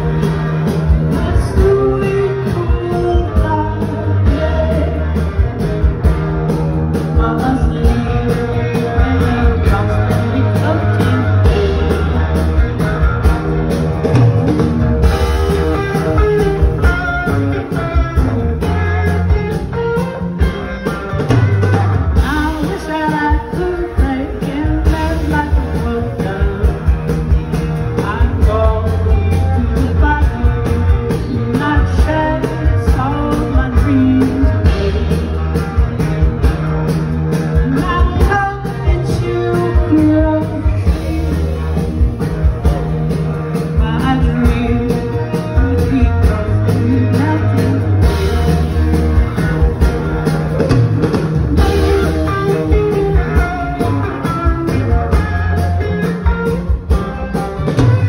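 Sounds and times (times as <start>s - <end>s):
person singing: 0.0s - 12.9s, 14.1s - 36.6s, 37.6s - 48.7s
live rock band playing: 0.0s - 58.0s.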